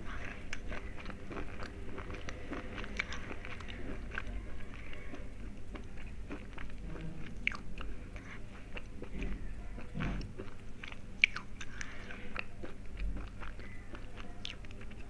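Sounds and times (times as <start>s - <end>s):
person chewing crunchy pencil: 0.0s - 15.0s.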